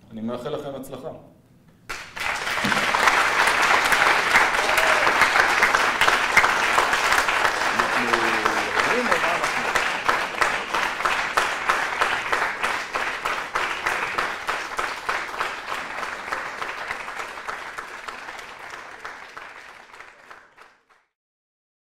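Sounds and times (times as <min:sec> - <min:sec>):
audience applauding: 0:01.9 - 0:21.1.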